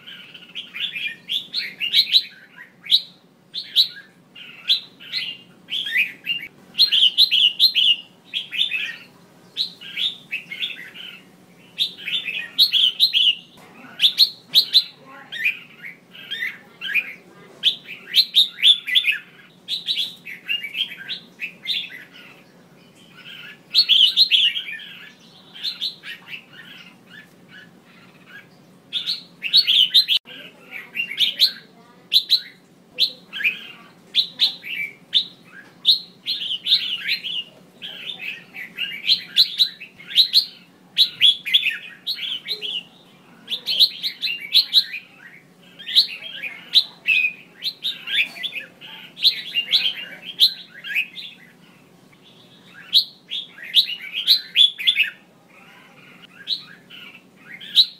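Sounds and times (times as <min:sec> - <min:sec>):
bulbul calling: 0:00.0 - 0:57.9.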